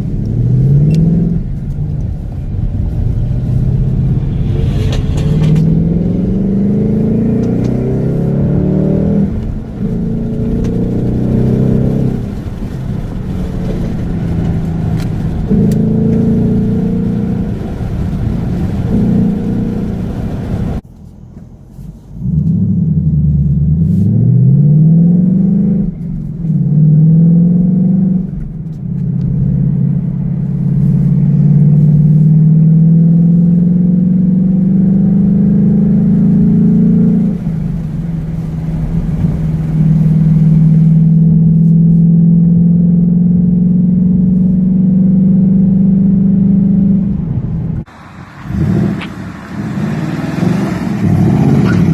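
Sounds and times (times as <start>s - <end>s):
car engine exhaust under load: 0.0s - 51.9s.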